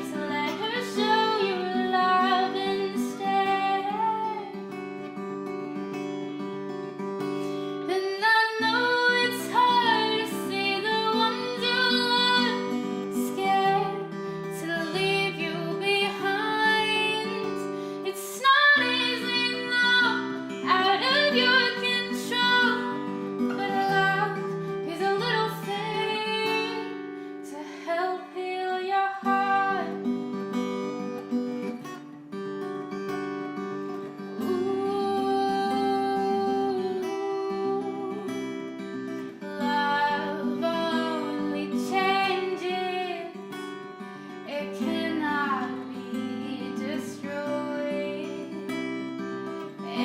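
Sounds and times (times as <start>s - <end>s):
woman singing: 0.0s - 5.0s, 7.2s - 30.5s, 34.1s - 50.0s
acoustic guitar chords: 0.0s - 50.0s.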